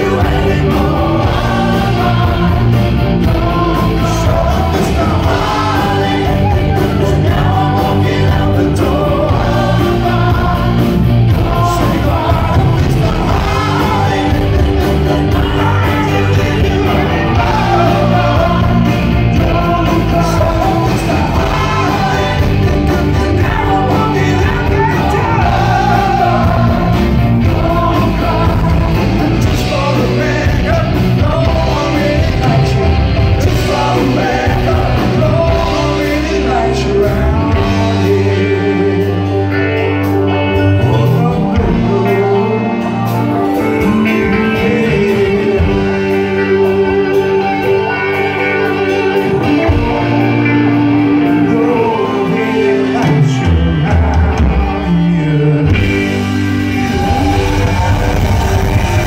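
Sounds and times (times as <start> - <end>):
backing vocal harmonies: 0.0 - 59.0
lead singer singing: 0.0 - 59.0
live rock band playing: 0.0 - 59.0.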